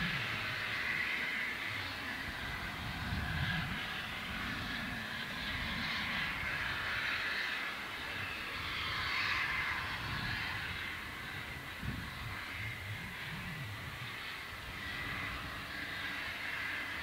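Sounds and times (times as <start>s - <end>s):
distant steam locomotive rushing: 0.0s - 17.0s.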